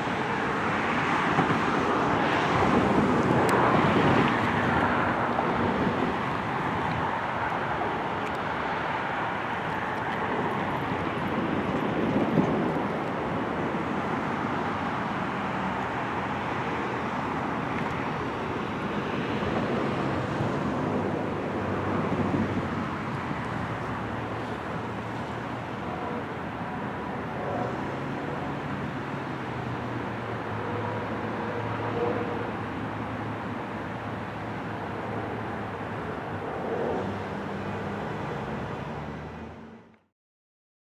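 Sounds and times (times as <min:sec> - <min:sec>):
road traffic rumble: 0:00.0 - 0:40.1.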